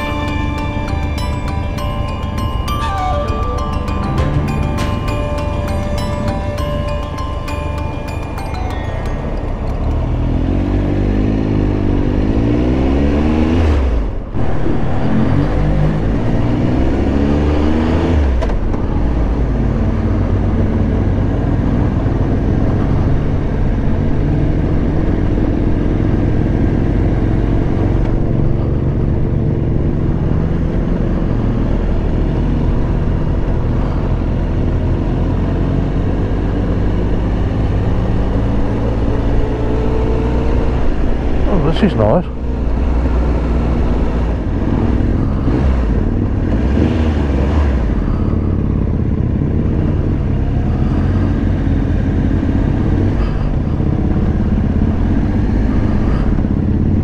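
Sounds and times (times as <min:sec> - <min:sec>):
motorcycle engine accelerating: 0:00.0 - 0:41.7, 0:42.3 - 0:57.0.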